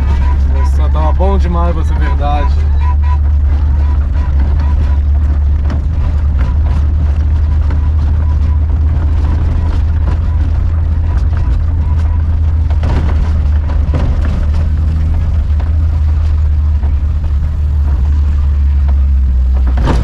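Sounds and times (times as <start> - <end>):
knocks and rattles: 0.0 - 20.0
van engine drone: 0.0 - 20.0.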